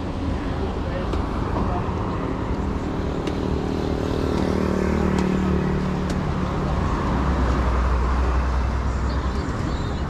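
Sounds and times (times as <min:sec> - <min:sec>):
deep vehicle rumble: 0:00.0 - 0:10.0
vehicle engine hum: 0:00.0 - 0:10.0.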